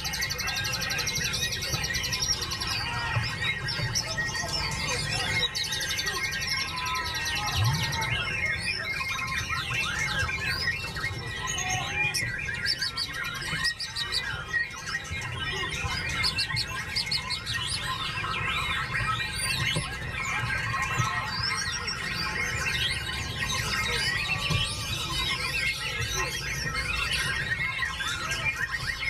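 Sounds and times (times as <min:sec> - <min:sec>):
bird singing whistles and trills: 0:00.0 - 0:29.0.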